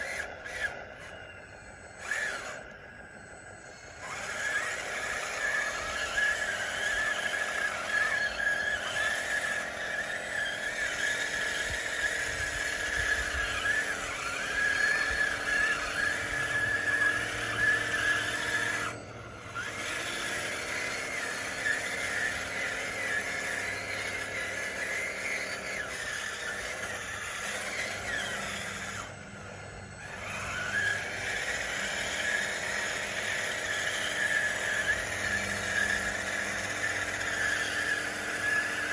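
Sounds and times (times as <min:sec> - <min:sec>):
high-pitched electric motor whine: 0:00.0 - 0:38.9.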